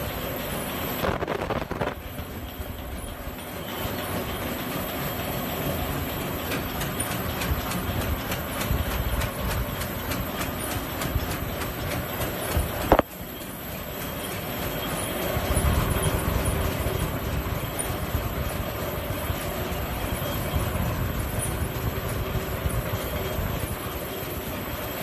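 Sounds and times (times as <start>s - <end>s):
machine clattering and clicking: 0.0s - 25.0s.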